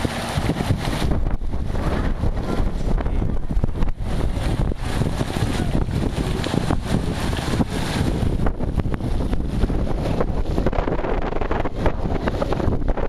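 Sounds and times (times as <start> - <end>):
fountain water spraying: 0.0 - 13.0
wind buffeting microphone: 0.0 - 13.0.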